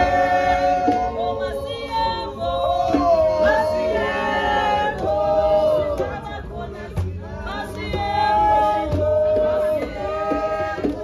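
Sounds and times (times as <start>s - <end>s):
group singing in harmony: 0.0s - 11.0s.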